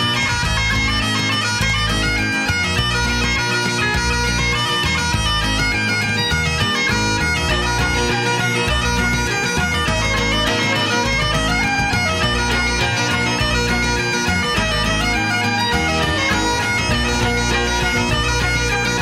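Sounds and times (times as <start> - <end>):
bagpipe melody over drone: 0.0 - 19.0.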